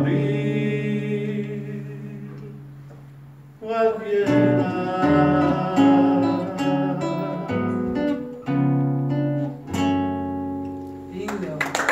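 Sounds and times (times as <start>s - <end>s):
acoustic guitars strumming chords: 0.0s - 11.6s.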